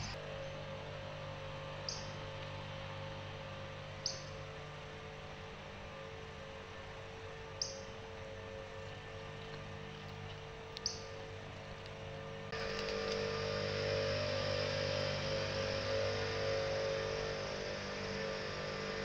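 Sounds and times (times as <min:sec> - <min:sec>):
steady electronic hum: 0:00.0 - 0:19.0.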